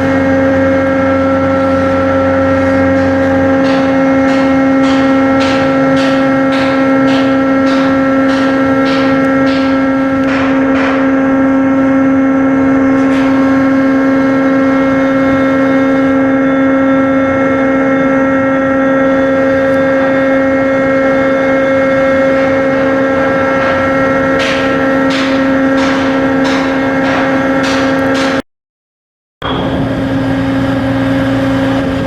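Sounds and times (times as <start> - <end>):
diesel machinery droning: 0.0 - 28.4, 29.4 - 32.0.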